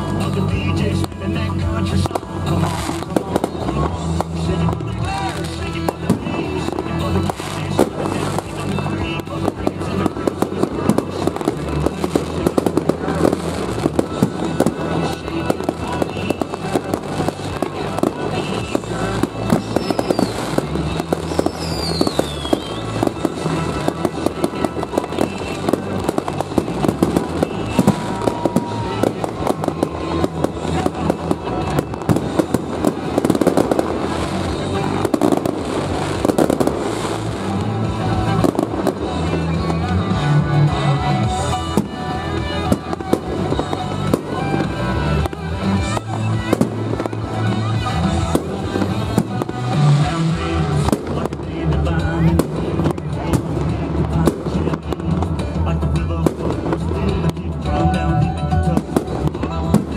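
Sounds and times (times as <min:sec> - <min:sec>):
fireworks bursts and crackling: 0:00.0 - 0:59.9
music: 0:00.0 - 0:59.9
firework whistle: 0:02.1 - 0:51.4.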